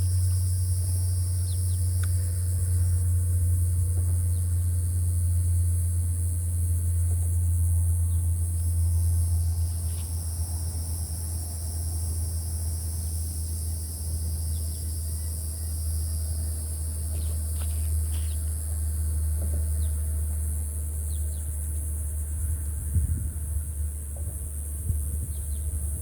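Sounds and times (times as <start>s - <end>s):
high insect-like hiss: 0.0s - 26.0s
steady low rumble: 0.0s - 26.0s.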